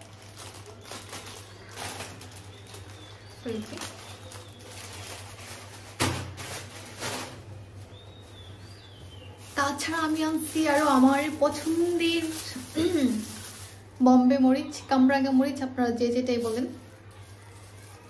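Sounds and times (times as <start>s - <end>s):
plastic packet rustling: 0.0s - 14.8s, 16.2s - 18.0s.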